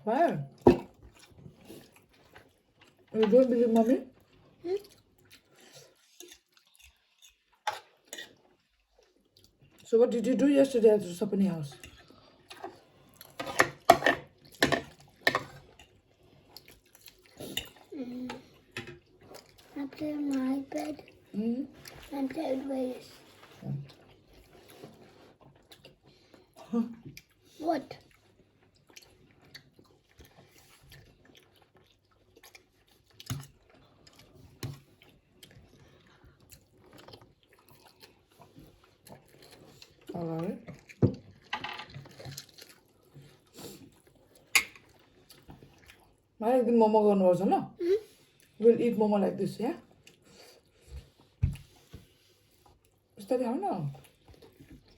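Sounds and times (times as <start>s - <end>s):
quiet eating: 0.2s - 46.8s, 47.6s - 54.9s
chewing noodles: 0.9s - 9.9s, 11.7s - 13.6s, 14.3s - 46.4s, 49.8s - 53.2s, 53.9s - 54.9s.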